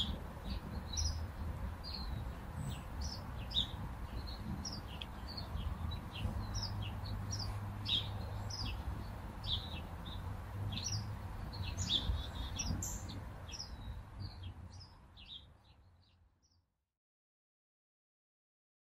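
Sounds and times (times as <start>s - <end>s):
birds chirping: 0.0s - 16.2s.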